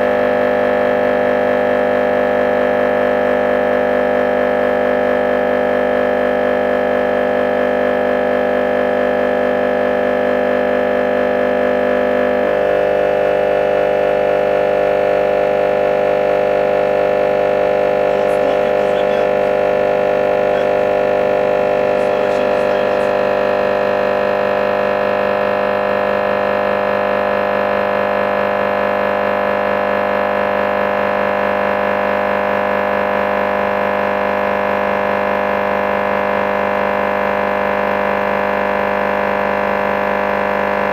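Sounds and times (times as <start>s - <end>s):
subwoofer test tone: 0.0s - 40.9s.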